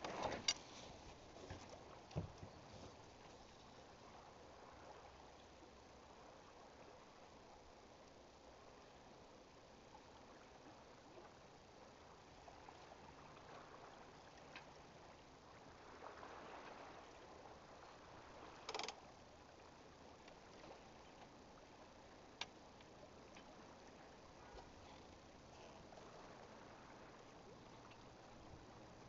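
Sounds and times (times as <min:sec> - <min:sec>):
faint background hiss: 0:00.0 - 0:29.0.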